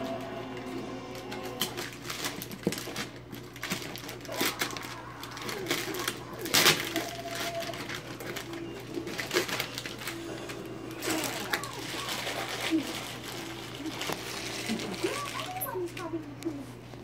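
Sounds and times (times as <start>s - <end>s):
wrapping paper tearing: 0.0s - 16.3s.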